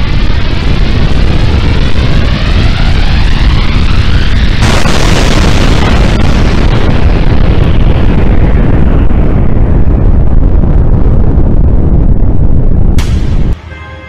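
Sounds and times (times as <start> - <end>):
explosion deep rumble: 0.0 - 13.6.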